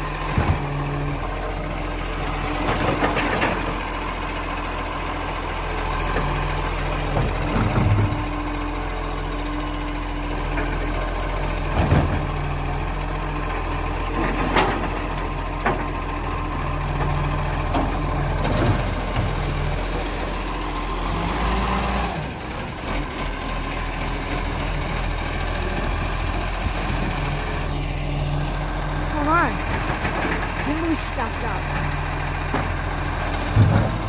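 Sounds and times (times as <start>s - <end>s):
garbage truck engine running: 0.0s - 34.0s.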